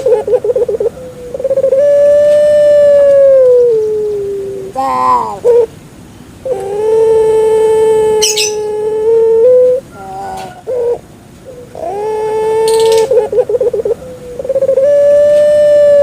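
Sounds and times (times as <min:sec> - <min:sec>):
dove cooing: 0:00.0 - 0:05.7, 0:06.4 - 0:16.0.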